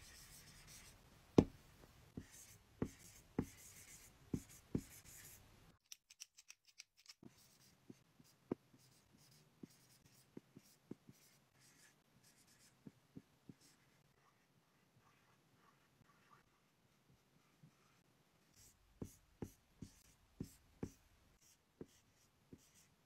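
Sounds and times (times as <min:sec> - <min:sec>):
marker scratching on whiteboard: 0:00.0 - 0:01.5, 0:02.2 - 0:05.4, 0:07.2 - 0:16.7, 0:18.6 - 0:22.9.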